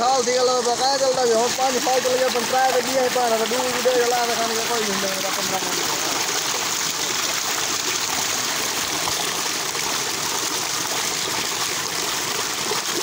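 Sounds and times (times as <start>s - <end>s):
water gushing into a tank: 0.0s - 13.0s.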